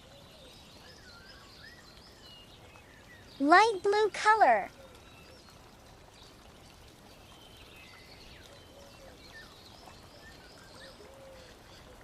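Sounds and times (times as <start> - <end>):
low steady background hiss: 0.0 - 12.0.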